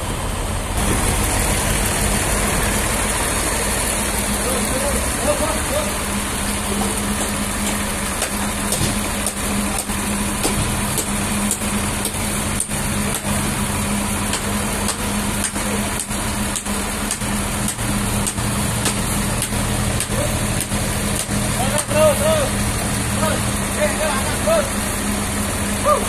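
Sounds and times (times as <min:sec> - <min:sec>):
forklift engine humming: 0:00.0 - 0:26.0.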